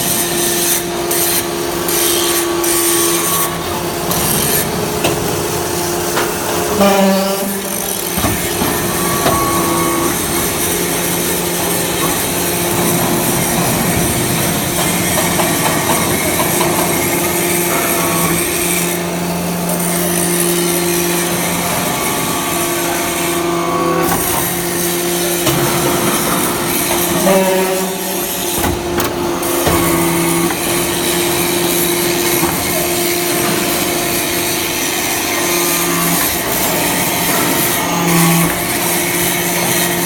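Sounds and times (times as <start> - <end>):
hydraulic press mechanical hum: 0.0 - 40.0.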